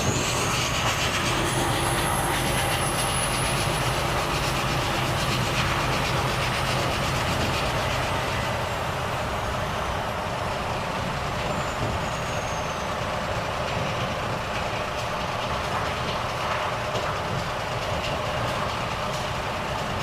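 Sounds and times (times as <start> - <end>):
road noise: 0.0 - 20.0
truck engine running: 0.0 - 20.0.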